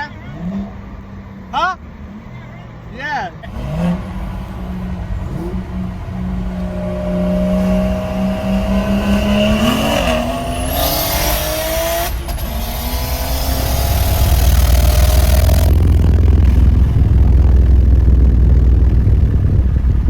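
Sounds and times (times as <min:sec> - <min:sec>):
car engine accelerating: 0:00.0 - 0:20.0
deep rumble: 0:03.5 - 0:20.0.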